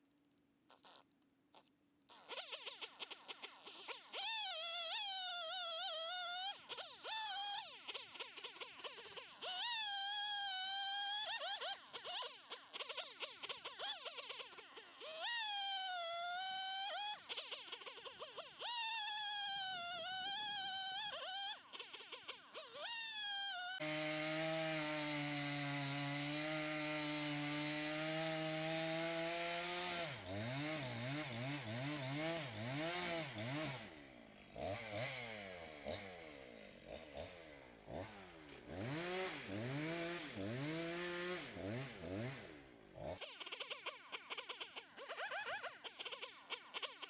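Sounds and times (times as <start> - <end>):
chainsaw revving: 2.1 - 47.0.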